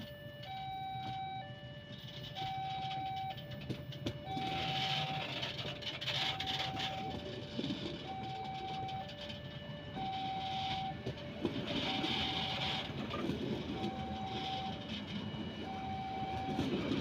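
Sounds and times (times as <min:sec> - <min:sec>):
two-tone electronic alarm: 0:00.0 - 0:17.0
train wheels rumbling on rail: 0:01.0 - 0:17.0.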